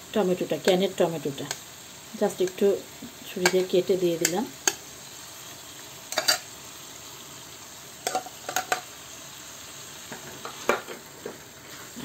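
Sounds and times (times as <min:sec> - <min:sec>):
masala sizzling in a frying pan: 0:00.0 - 0:12.0.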